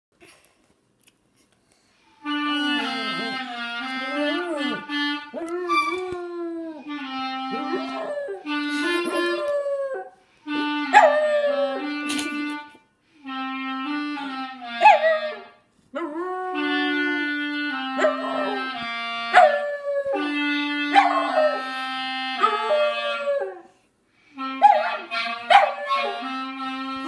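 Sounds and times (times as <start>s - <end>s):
clarinet playing sustained notes: 2.1s - 23.7s, 24.3s - 27.0s.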